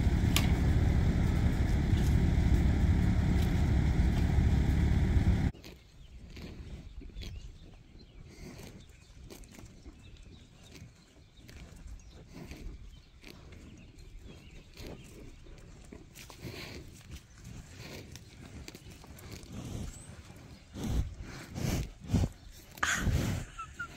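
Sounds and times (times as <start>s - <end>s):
cows feeding on wet grass: 0.0s - 23.9s.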